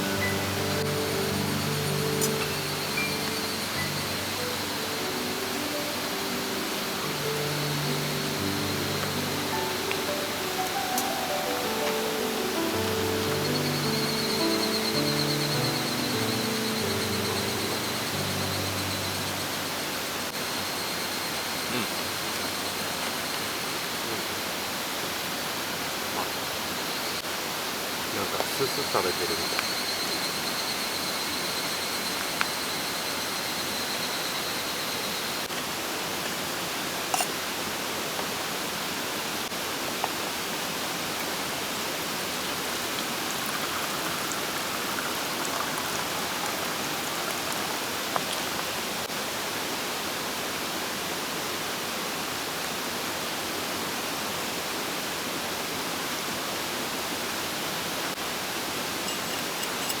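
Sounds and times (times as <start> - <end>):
mountain stream rushing: 0.0 - 33.8, 34.5 - 60.0.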